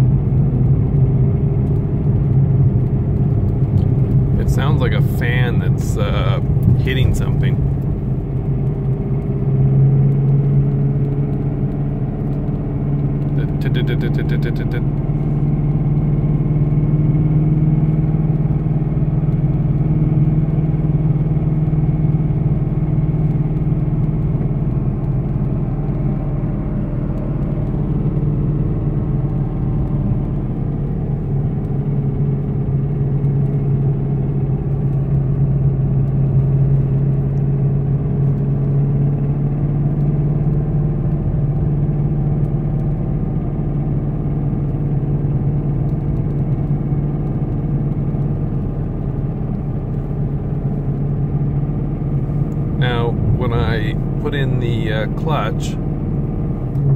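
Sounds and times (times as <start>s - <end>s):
car engine: 0.0s - 56.9s
road noise: 0.0s - 56.9s.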